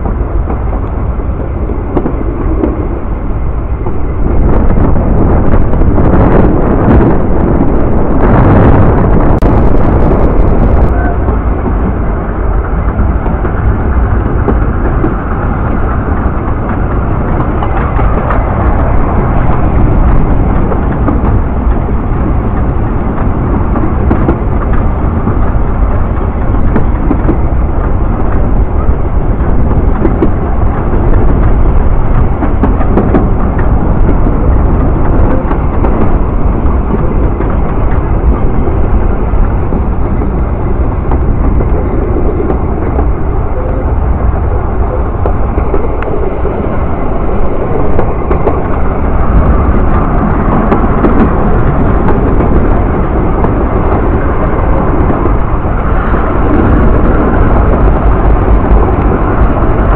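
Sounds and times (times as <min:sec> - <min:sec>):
train carriages rumbling on track: 0:00.0 - 0:59.9
wind on microphone: 0:00.0 - 0:59.9.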